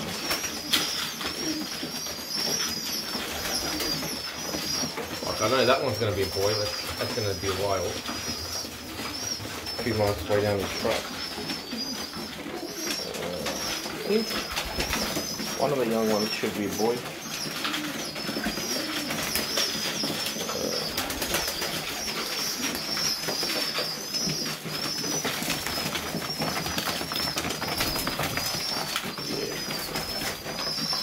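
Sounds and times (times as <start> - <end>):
pigeons chirping: 0.0 - 31.0
pigeons cooing: 0.0 - 31.0.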